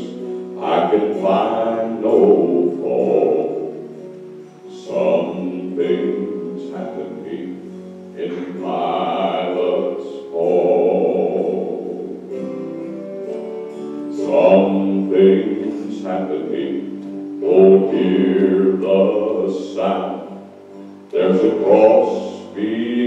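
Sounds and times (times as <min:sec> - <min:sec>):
man singing into microphone: 0:00.0 - 0:12.9, 0:14.1 - 0:23.0
instrumental accompaniment: 0:00.0 - 0:23.0.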